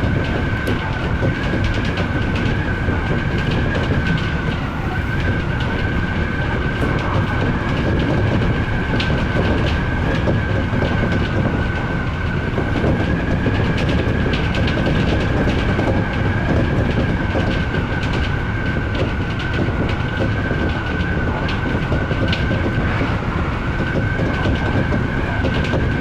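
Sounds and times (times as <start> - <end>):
high train whine: 0.0 - 26.0
train rumbling: 0.0 - 26.0
wheels clicking over rail joints: 0.0 - 26.0.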